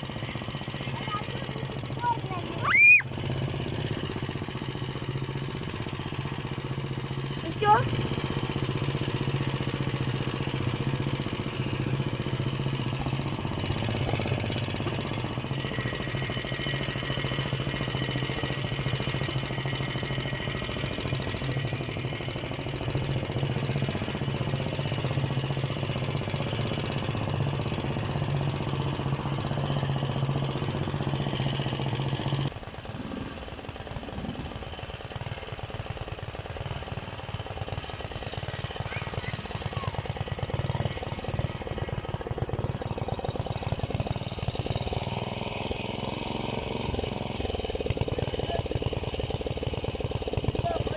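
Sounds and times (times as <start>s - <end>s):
walk-behind tractor engine running: 0.0s - 50.9s.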